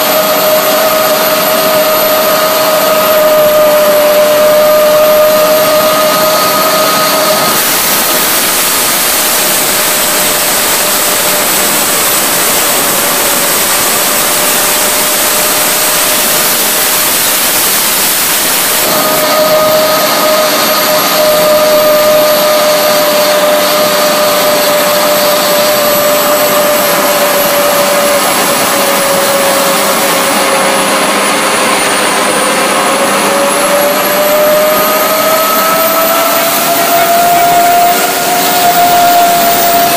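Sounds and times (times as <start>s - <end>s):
jet engine roar: 0.0s - 39.9s
turbine whine: 0.0s - 39.9s.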